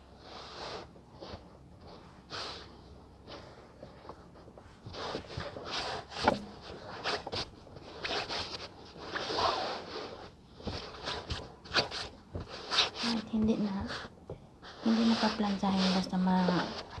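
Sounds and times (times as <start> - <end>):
fabric rustling and scrunching: 0.0 - 17.0.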